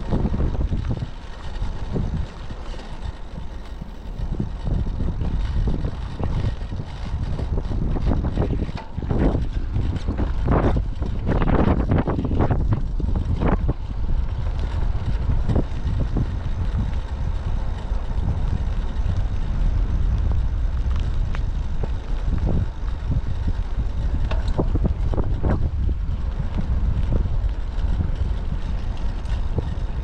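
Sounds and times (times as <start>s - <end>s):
wind buffeting the microphone: 0.0s - 30.0s.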